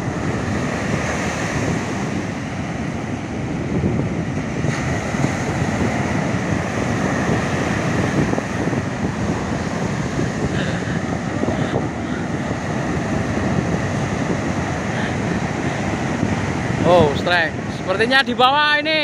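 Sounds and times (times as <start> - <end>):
waves breaking on shore: 0.0 - 19.0
wind on microphone: 0.0 - 19.0.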